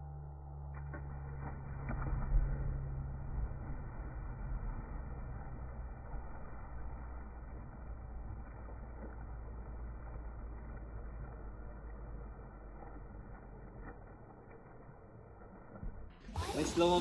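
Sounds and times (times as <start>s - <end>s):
steady low rumble: 0.0s - 17.0s
water splashing: 0.7s - 17.0s.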